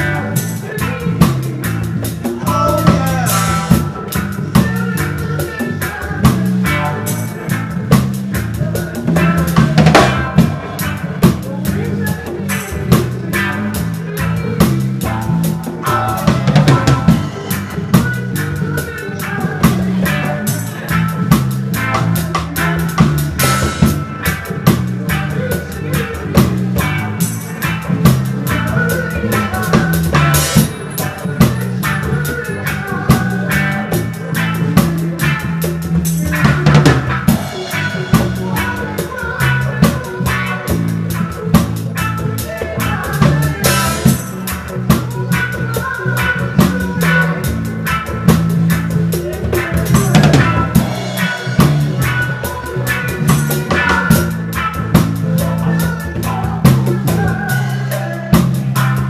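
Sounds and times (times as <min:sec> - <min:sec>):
drums with kick snare and rim: 0:00.0 - 0:59.0
low bass line: 0:00.0 - 0:59.0
reggae band playing live: 0:00.0 - 0:59.0.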